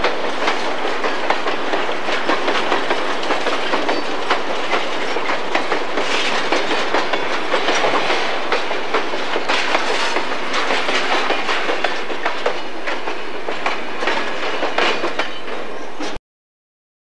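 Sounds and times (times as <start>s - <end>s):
wheels clicking over rail joints: 0.0s - 16.2s.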